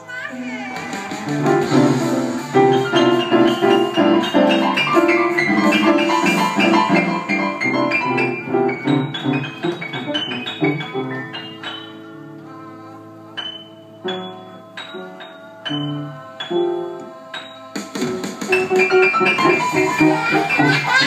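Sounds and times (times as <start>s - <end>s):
upright piano playing: 0.0s - 21.0s.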